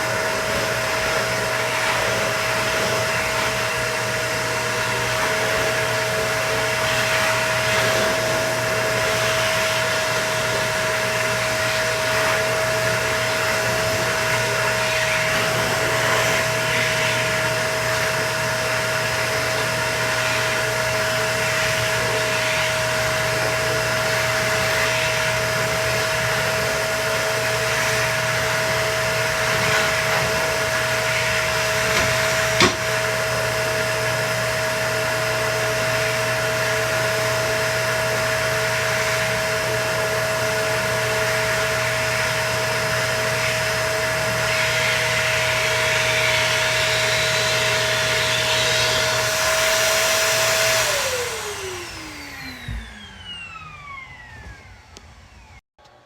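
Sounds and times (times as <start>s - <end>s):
vacuum cleaner humming: 0.0s - 56.0s.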